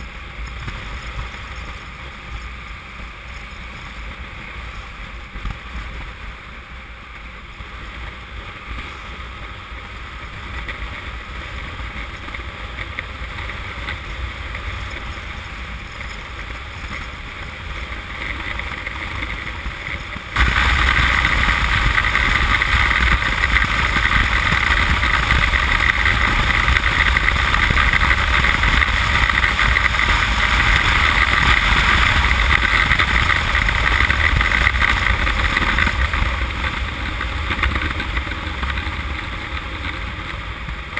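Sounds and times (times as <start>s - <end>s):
motorcycle engine: 0.0s - 40.9s
road noise: 0.0s - 40.9s
wind rushing over microphone: 0.0s - 40.9s.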